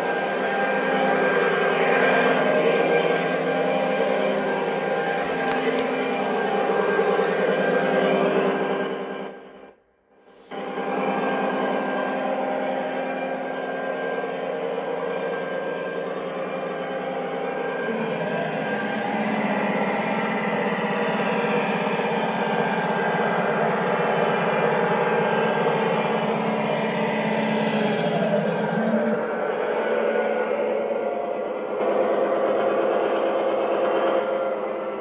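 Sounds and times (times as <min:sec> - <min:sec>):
model locomotive running: 0:00.0 - 0:09.4, 0:10.2 - 0:35.0.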